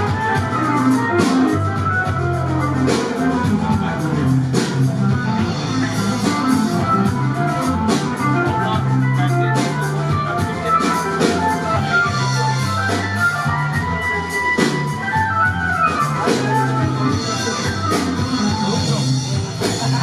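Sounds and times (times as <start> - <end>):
drums with cymbal strikes: 0.0 - 20.0
guitar: 0.0 - 20.0
organ: 0.0 - 20.0
sustained bass line: 0.0 - 20.0.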